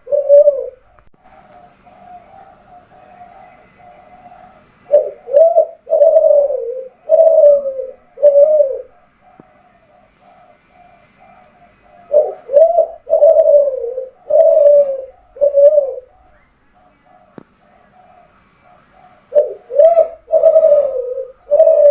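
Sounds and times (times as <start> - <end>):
dove cooing: 0.0 - 21.9.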